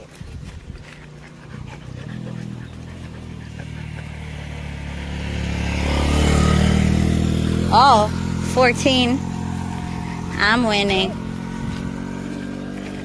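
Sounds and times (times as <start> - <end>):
motorcycle engine approaching: 0.0 - 13.0.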